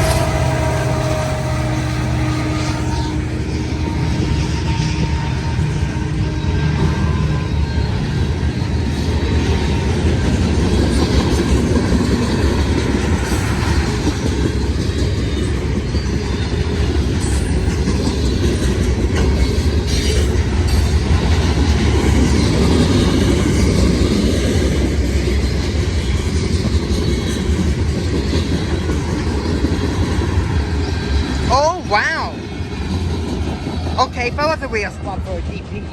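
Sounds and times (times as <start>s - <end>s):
freight train rumbling past: 0.0s - 35.9s.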